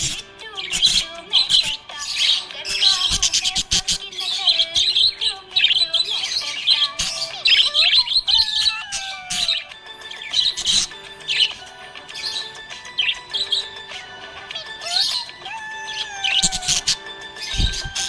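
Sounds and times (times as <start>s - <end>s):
budgerigars chirping: 0.0s - 18.0s.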